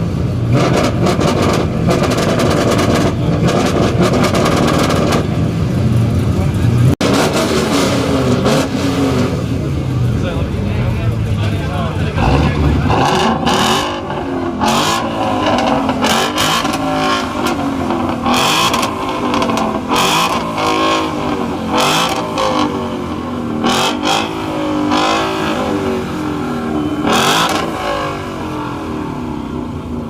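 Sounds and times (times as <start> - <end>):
car engine revving hard: 0.0 - 5.5, 6.7 - 10.0, 12.0 - 30.0.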